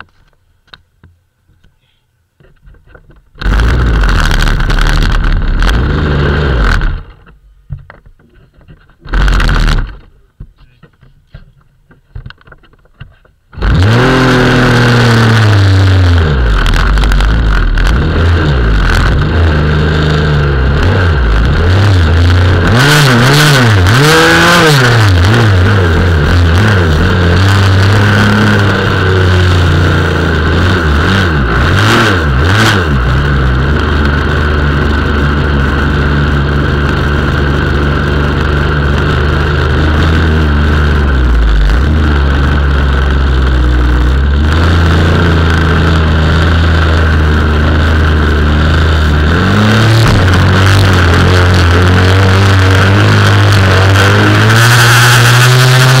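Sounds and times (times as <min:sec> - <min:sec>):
two-stroke engine revving: 0:03.4 - 0:07.3, 0:09.0 - 0:10.0, 0:13.5 - 0:56.0.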